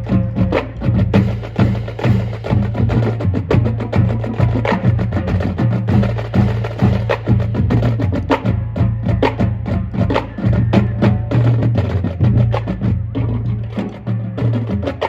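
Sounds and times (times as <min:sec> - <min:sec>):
pounding bass drums: 0:00.0 - 0:15.0
snare and tenor drum strokes: 0:00.0 - 0:15.0.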